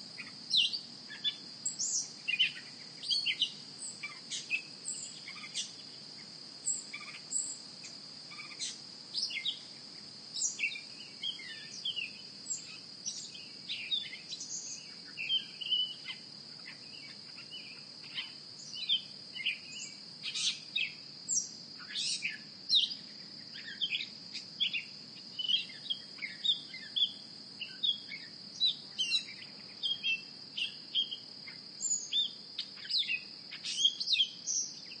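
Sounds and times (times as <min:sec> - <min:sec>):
high-pitched insect trill: 0:00.0 - 0:35.0
bird chirps: 0:00.2 - 0:05.8, 0:10.4 - 0:35.0.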